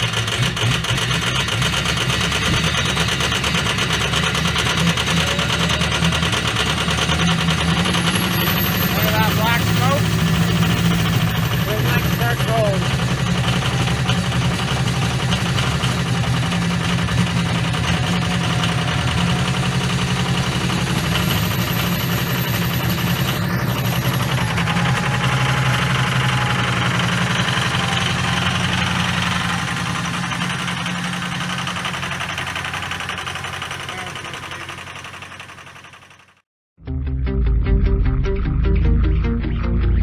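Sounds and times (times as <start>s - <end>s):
diesel engine idling: 0.0s - 36.4s.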